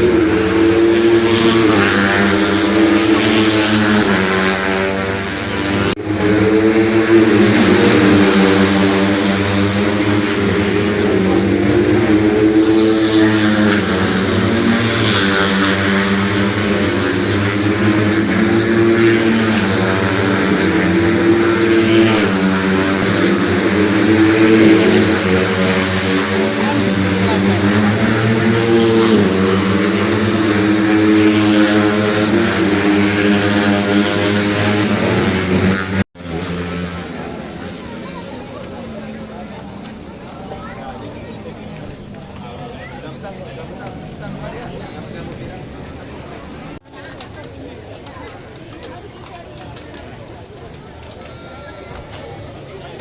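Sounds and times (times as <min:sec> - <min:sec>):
racing motorcycle engines revving: 0:00.0 - 0:53.0.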